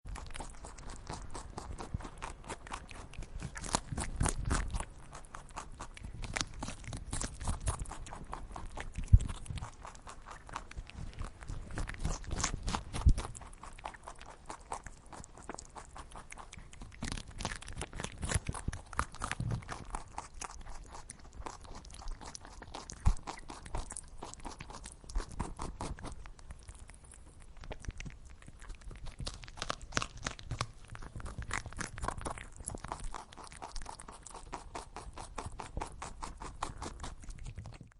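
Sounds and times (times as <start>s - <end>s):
rabbit chewing crunchy food: 0.0s - 37.9s.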